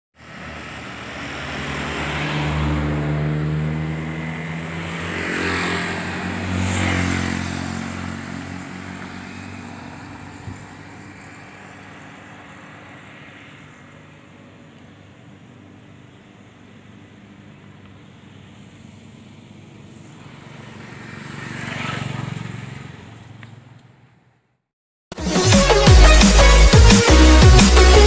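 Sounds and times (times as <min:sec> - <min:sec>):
vehicle engines passing: 0:00.2 - 0:24.4.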